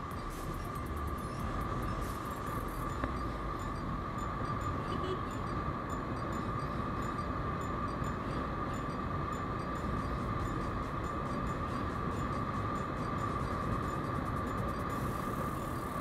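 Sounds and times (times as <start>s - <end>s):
constant high whine: 0.0s - 16.0s.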